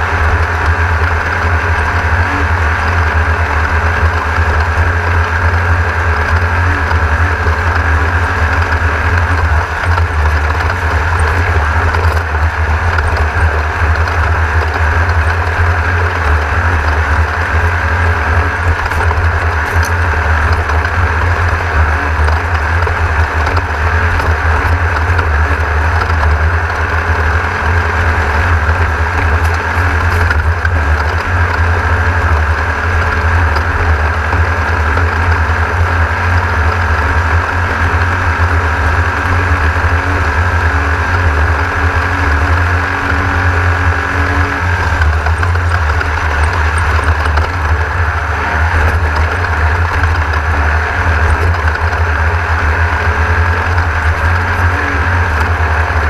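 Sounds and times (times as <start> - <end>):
race car engine droning: 0.0 - 56.0.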